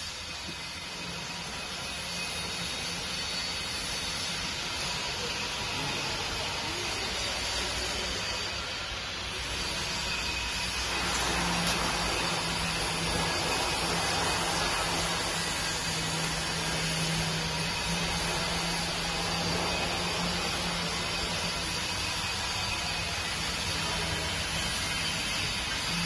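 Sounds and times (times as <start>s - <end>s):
electric motor and pump humming: 0.0s - 26.0s.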